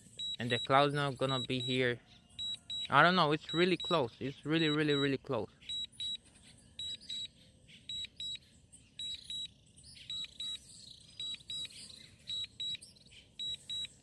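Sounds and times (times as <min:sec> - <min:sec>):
high double warning beeps: 0:00.0 - 0:06.2, 0:06.8 - 0:08.4, 0:09.0 - 0:14.0.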